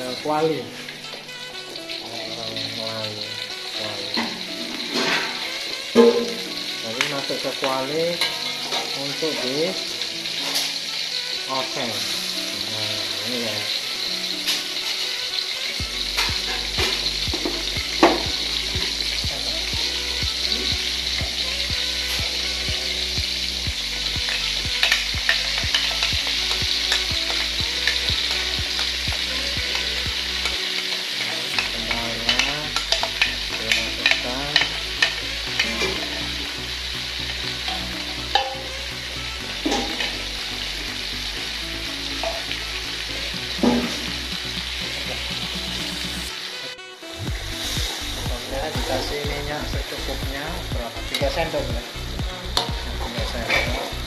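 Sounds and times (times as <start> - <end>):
paste sizzling in oil: 0.0 - 54.0.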